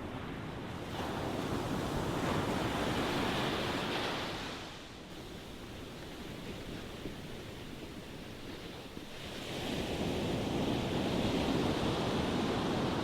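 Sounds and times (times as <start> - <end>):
ocean waves washing onto shore: 0.0 - 13.0.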